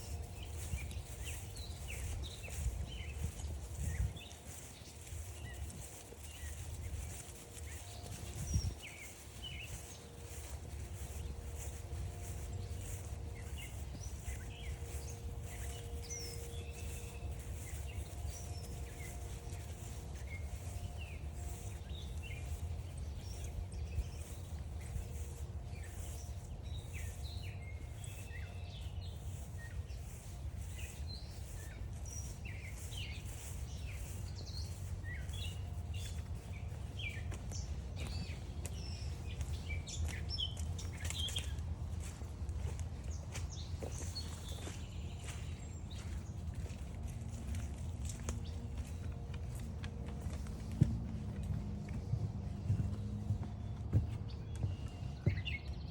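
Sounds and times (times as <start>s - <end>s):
footsteps on a trail: 0.0s - 55.9s
low outdoor rumble: 0.0s - 55.9s
songbirds chirping and singing: 0.0s - 55.9s.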